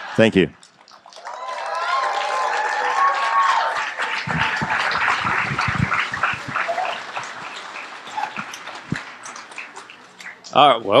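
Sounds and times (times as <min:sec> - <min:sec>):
audience applauding: 0:00.0 - 0:10.7
voices cheering: 0:01.2 - 0:10.5.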